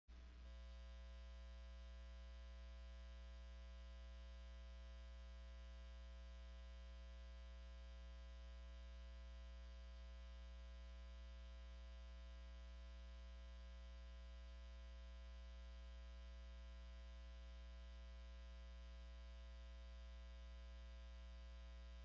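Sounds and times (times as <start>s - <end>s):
faint buzzy mains hum: 0.1s - 22.0s.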